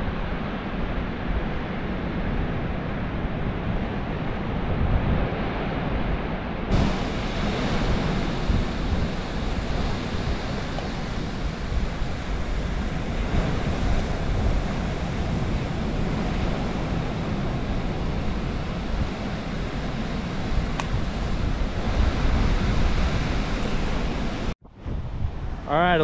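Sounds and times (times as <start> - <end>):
ocean surf on beach: 0.0 - 26.0
wind on microphone: 0.0 - 26.0.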